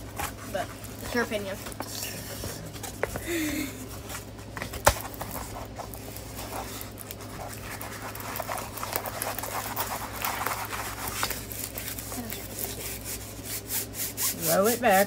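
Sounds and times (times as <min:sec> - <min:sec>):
plastic film crinkling and rustling: 0:00.0 - 0:03.2, 0:03.9 - 0:14.0.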